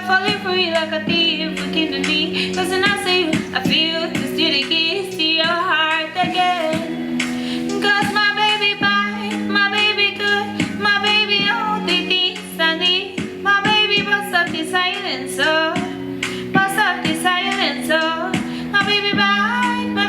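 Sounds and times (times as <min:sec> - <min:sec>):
a cappella group singing in harmony: 0:00.0 - 0:20.0.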